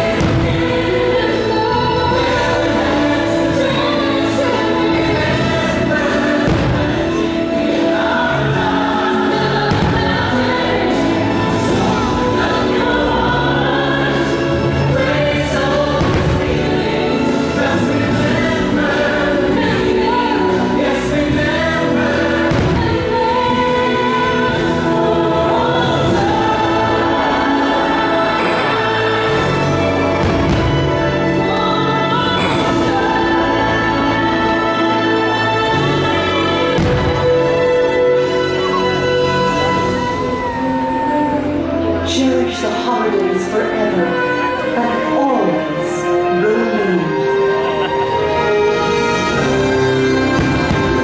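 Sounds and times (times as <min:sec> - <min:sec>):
choir singing with orchestra: 0:00.0 - 0:51.0.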